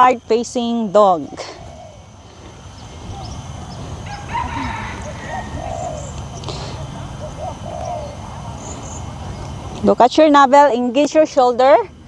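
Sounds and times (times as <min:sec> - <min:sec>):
birds chirping: 0:00.0 - 0:11.9
low outdoor rumble: 0:00.0 - 0:12.0.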